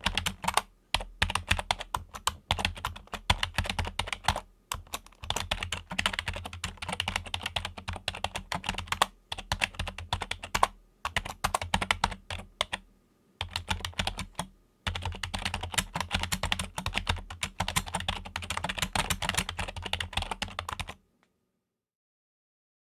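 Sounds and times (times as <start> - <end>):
fast keyboard typing: 0.0 - 12.8, 13.4 - 21.0.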